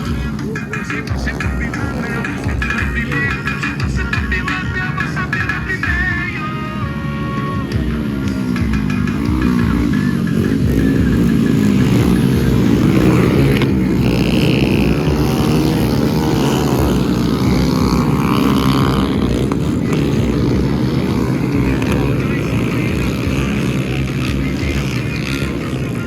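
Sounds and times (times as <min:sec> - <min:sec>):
small motorcycle engines revving: 0:00.0 - 0:26.0.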